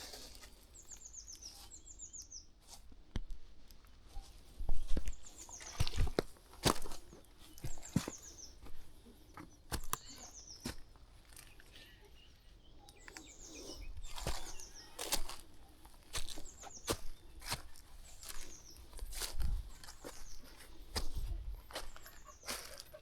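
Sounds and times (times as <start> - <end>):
small songbird singing: 0.8 - 2.5, 4.7 - 22.7
footsteps crunching on a path: 2.6 - 11.7, 13.0 - 23.0.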